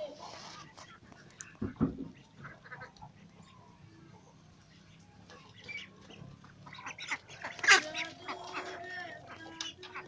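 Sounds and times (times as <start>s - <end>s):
ducks calling softly: 0.0s - 10.0s.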